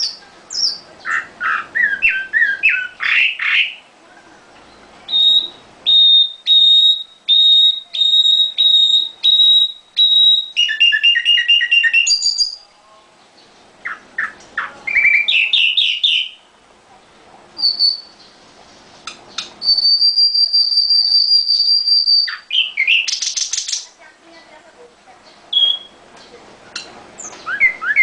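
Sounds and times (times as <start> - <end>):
nightingale singing: 0.0 - 16.6, 17.6 - 18.4, 19.0 - 24.0, 25.2 - 28.0.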